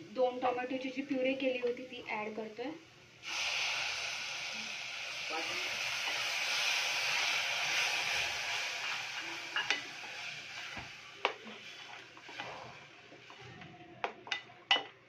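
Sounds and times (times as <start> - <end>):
tomato puree sizzling in oil: 0.0 - 14.9.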